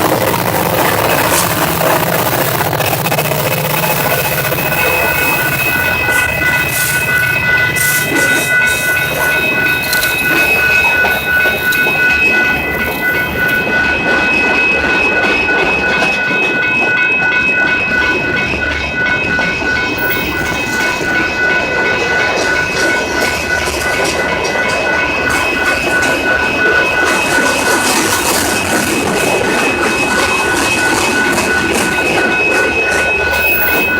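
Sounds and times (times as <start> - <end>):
train wheels clattering on rails: 0.0 - 33.9.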